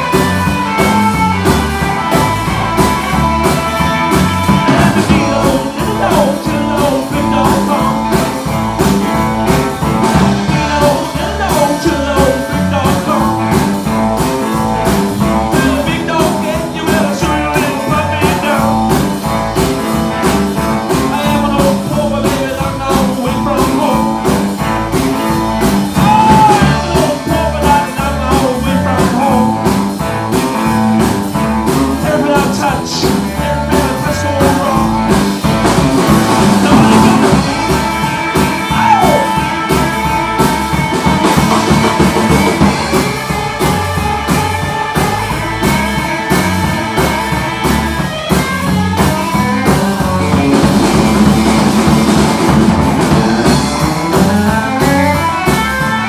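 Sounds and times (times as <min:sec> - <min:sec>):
electric guitar lead: 0:00.0 - 0:56.0
rock band playing: 0:00.0 - 0:56.0.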